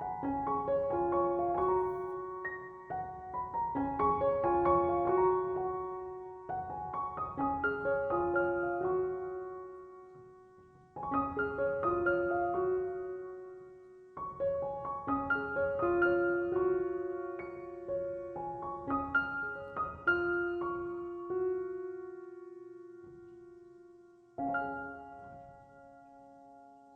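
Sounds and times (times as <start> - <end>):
soft piano music: 0.0 - 26.9.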